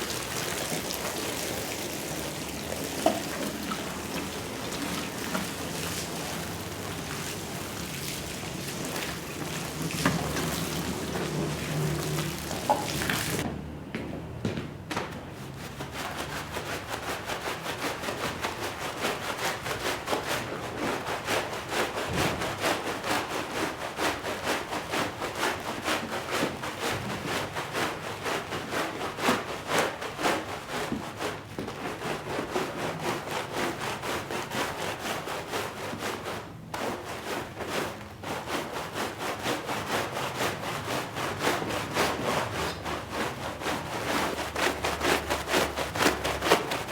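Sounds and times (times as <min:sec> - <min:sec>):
stiff brush scrubbing a rug: 0:00.0 - 0:13.4, 0:15.4 - 0:46.9.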